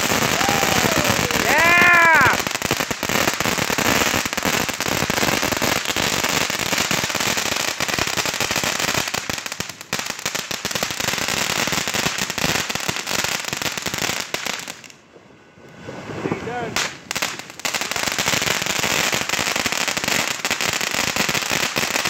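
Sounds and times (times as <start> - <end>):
fireworks crackling: 0.0 - 15.1, 15.7 - 22.0.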